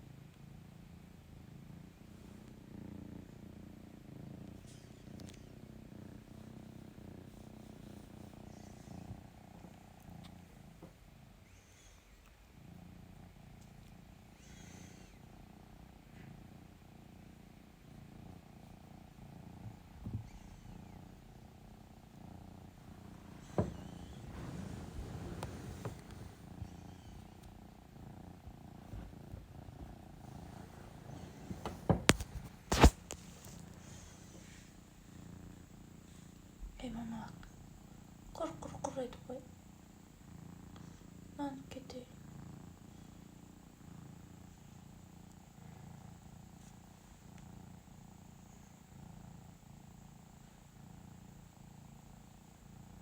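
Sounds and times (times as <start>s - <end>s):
cat purring: 0.0s - 53.0s.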